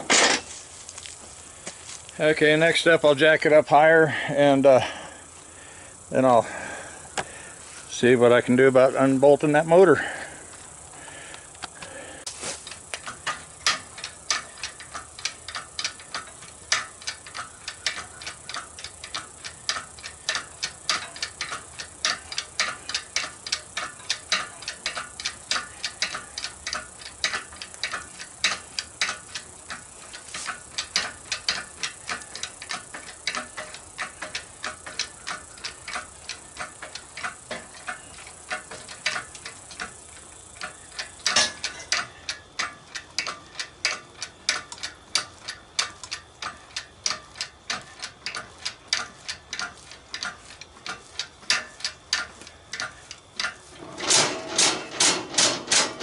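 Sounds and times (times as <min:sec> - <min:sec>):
ratcheting jack clicks: 0:11.1 - 0:56.0.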